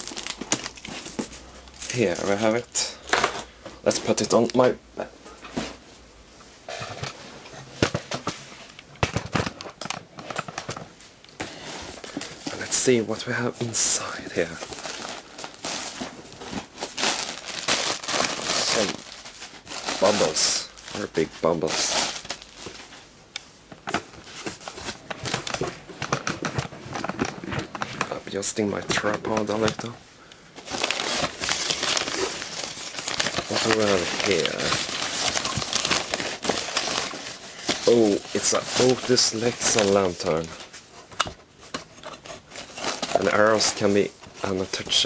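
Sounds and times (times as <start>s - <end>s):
paper and cardboard rustling: 6.7s - 23.1s, 23.8s - 30.0s, 30.6s - 45.0s.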